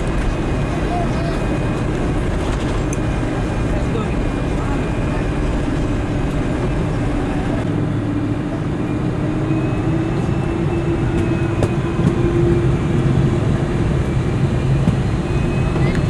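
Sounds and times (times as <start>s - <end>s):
jet engines humming in cabin: 0.0s - 16.0s.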